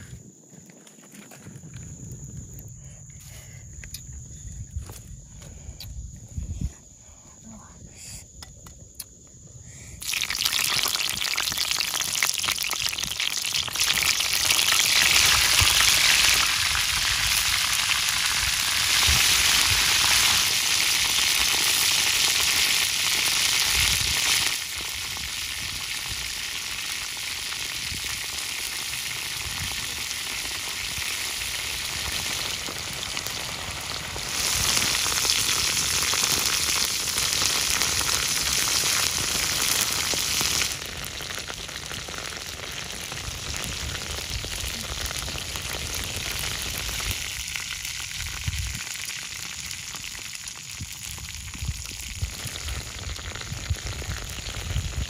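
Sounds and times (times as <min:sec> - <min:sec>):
deep-frying sizzle in hot oil: 0:10.0 - 0:55.0.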